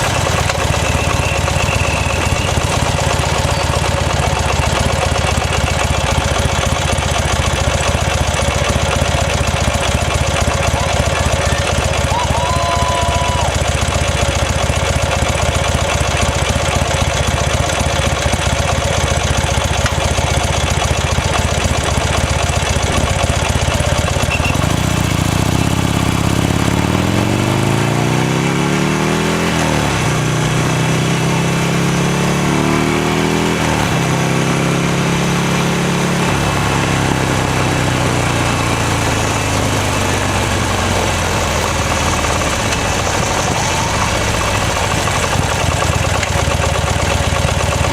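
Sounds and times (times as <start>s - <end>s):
motorcycle engine idling: 0.0s - 32.5s, 33.6s - 47.9s
motorcycle accelerating through gears: 0.0s - 47.9s.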